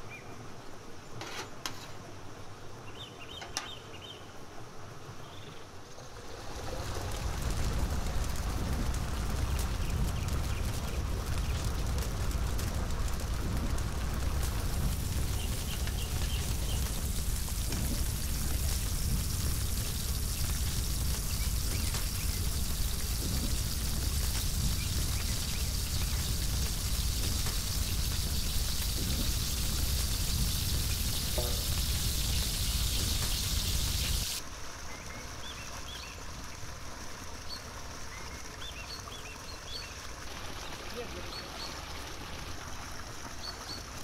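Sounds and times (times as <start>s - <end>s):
chicken sizzling in oil: 6.0s - 44.0s.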